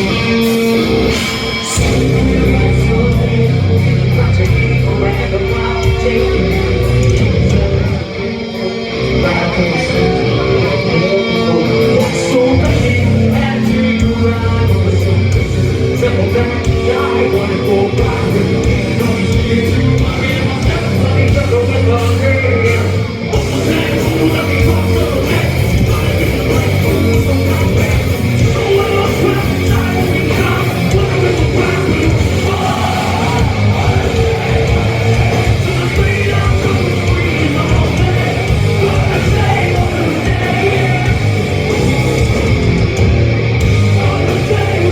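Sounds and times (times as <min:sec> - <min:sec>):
person singing and yelling: 0:00.0 - 0:42.9, 0:43.5 - 0:44.9
bass: 0:00.0 - 0:44.9
distorted electric guitars: 0:00.0 - 0:44.9
drums: 0:00.0 - 0:44.9.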